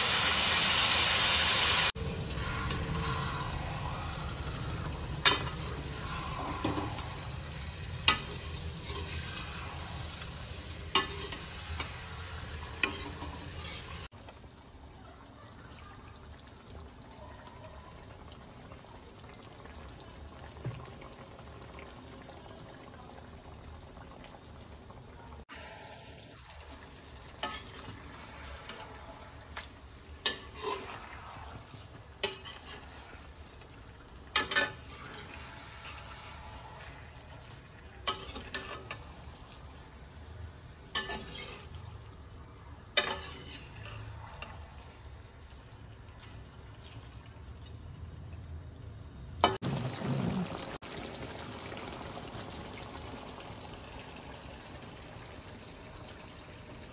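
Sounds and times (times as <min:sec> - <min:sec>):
food sizzling in oil: 0:00.0 - 0:56.9.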